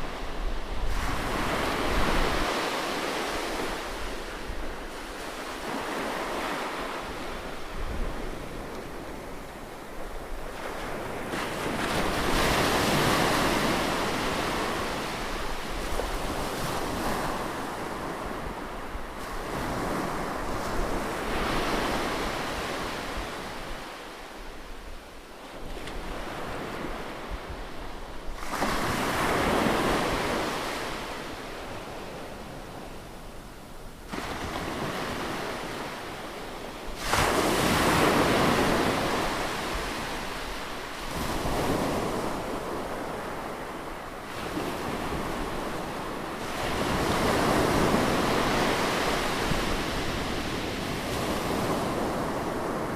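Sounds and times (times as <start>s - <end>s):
ocean waves breaking: 0.0s - 24.2s, 34.1s - 52.9s.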